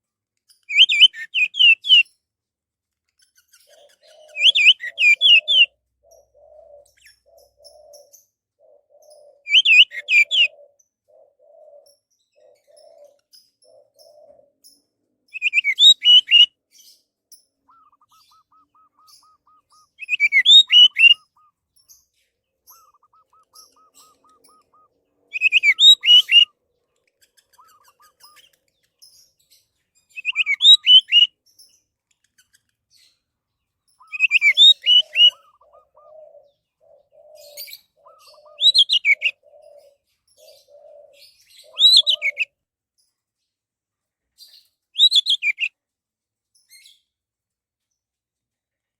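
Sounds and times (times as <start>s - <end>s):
bird trills: 0.6s - 2.1s, 3.3s - 33.2s, 33.9s - 42.5s, 45.0s - 45.7s.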